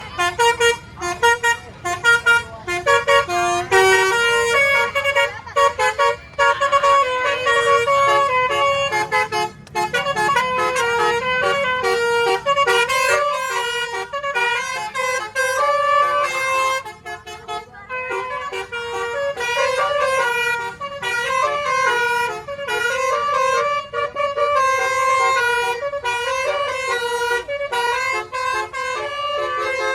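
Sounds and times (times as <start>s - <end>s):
multi-trumpet horns playing tune: 0.0s - 29.9s.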